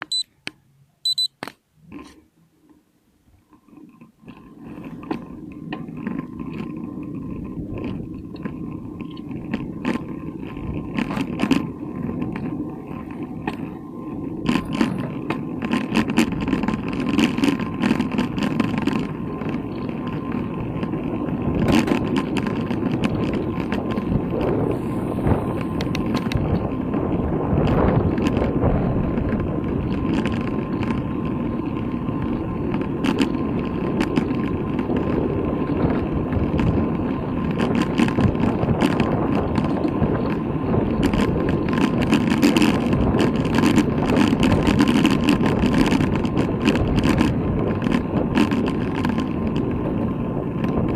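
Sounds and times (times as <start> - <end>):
faint steady whine: 0.0 - 50.9
road rumble: 0.0 - 50.9
bicycle rattling over bumps: 3.4 - 50.9
wind noise: 4.3 - 50.9.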